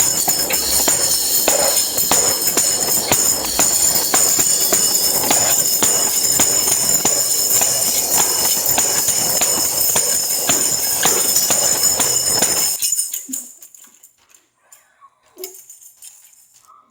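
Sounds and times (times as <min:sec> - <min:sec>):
tambourine jingling: 0:00.0 - 0:14.5, 0:15.4 - 0:16.8.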